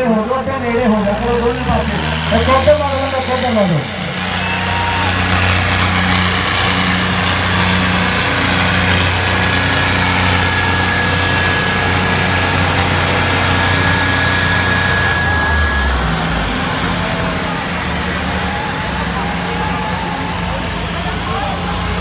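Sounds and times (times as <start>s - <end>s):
diesel tractor engines under load: 0.0s - 22.0s.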